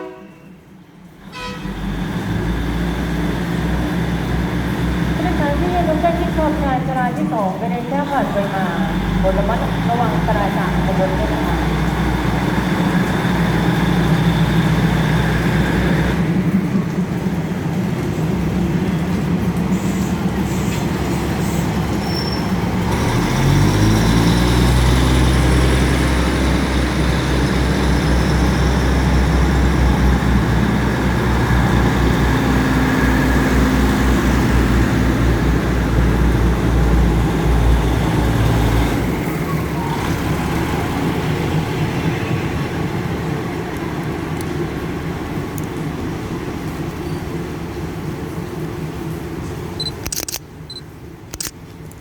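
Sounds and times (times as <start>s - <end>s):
diesel train engine: 0.0s - 51.9s.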